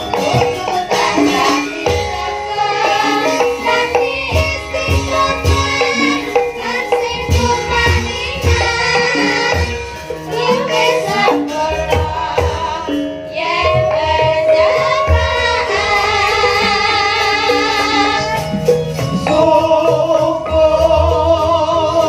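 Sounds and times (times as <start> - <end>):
woman singing into microphones: 0.0 - 18.4
ringing metallophone tones: 0.0 - 22.0.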